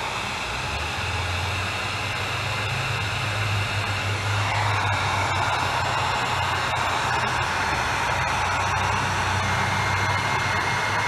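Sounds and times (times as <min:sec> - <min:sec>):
heat gun fan hiss: 0:00.0 - 0:11.0.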